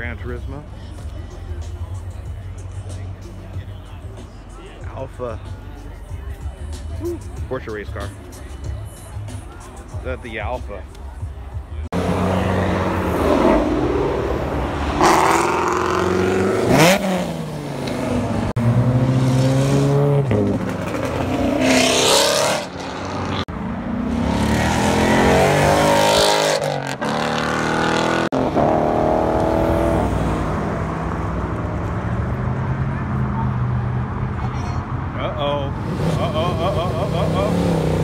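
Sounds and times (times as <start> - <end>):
car engines revving and accelerating: 0.0 - 38.0.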